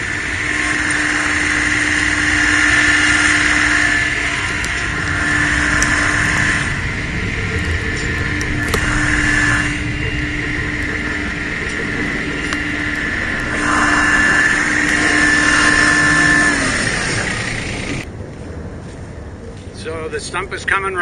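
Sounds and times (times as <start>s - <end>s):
tractor engine under load: 0.0s - 18.1s.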